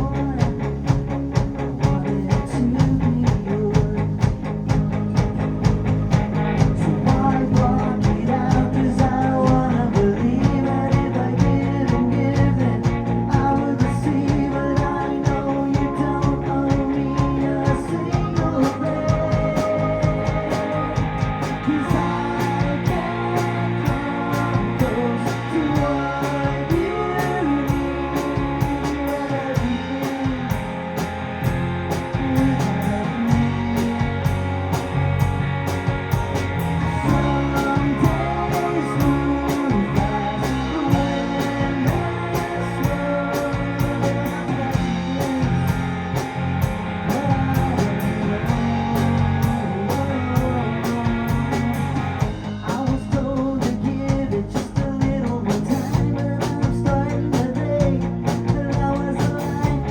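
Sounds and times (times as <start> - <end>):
bass guitar: 0.0 - 59.9
electric guitar: 0.0 - 59.9
keyboards: 0.0 - 59.9
steady drumbeat: 0.0 - 59.9.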